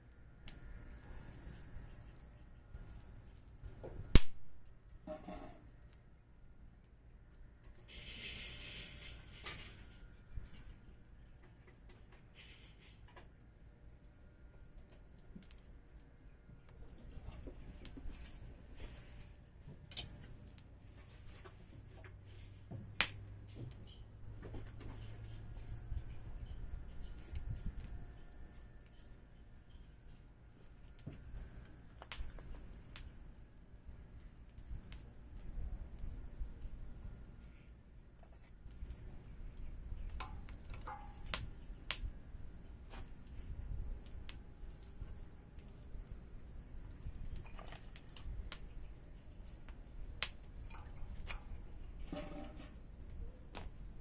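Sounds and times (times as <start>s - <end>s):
fire popping: 0.0s - 54.0s
low background noise: 0.0s - 54.0s
low steady hum: 0.0s - 54.0s
wood fire crackling: 0.0s - 54.0s.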